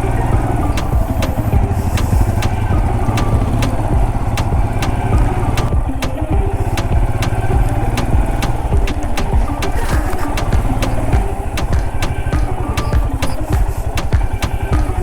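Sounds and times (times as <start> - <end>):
motorcycle engine running: 0.0 - 15.0
sharp repeating tick: 0.4 - 14.9.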